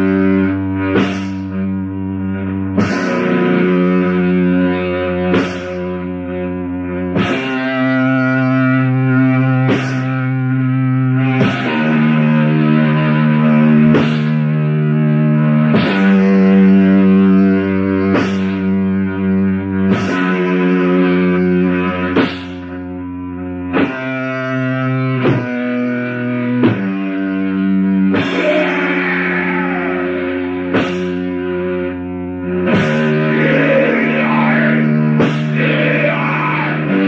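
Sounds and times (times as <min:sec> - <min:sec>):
distorted electric guitar chords: 0:00.0 - 0:37.0.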